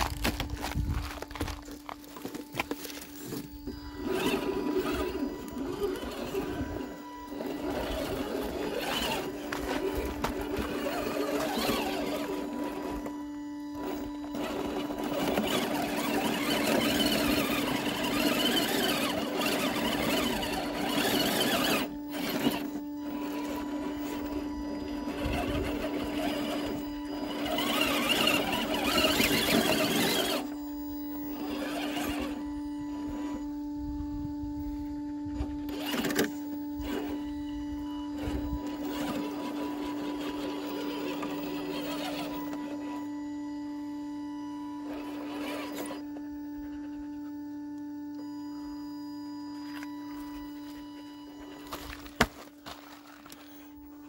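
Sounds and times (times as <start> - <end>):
electric motor and gears whirring: 0.0 - 54.0
steady hum: 0.0 - 54.0.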